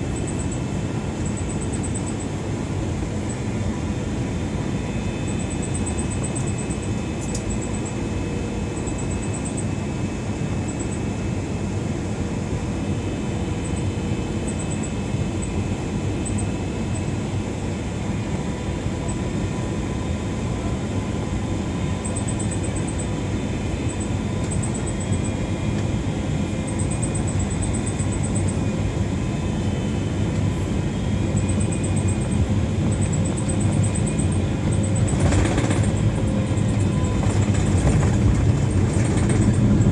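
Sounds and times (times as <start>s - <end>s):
airliner cabin noise: 0.0s - 39.9s.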